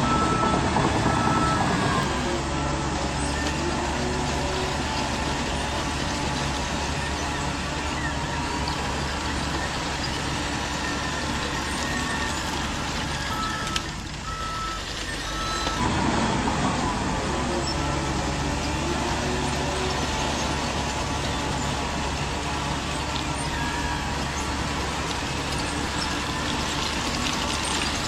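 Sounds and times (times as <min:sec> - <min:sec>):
toy trucks mechanical hum: 0:00.0 - 0:28.0.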